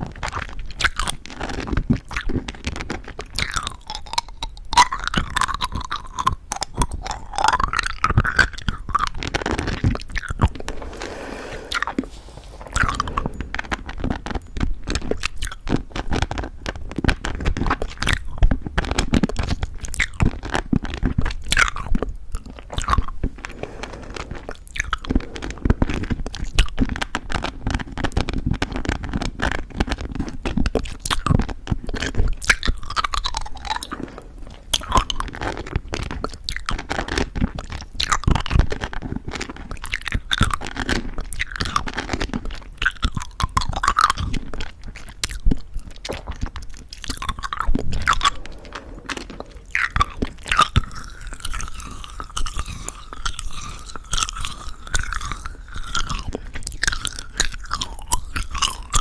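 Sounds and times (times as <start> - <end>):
crunchy candy chewing: 0.0 - 59.0
wet mouth sounds: 0.2 - 16.6, 17.2 - 59.0.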